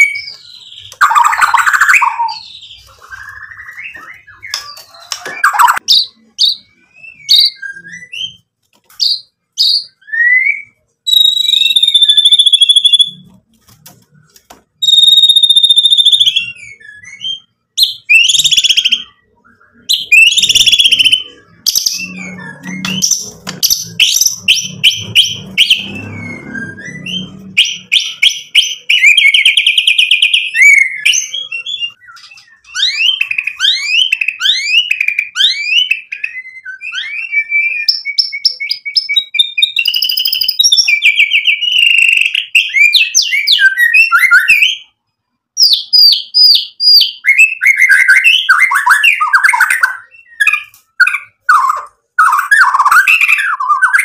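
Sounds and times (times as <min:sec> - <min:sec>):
bird singing varied song: 0:00.0 - 0:13.4, 0:14.1 - 0:54.0.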